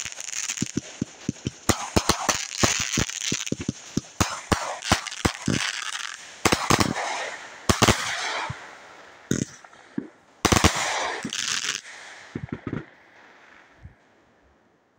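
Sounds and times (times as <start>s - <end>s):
firework reports: 0.0s - 13.9s
firework stars crackling: 0.0s - 14.0s.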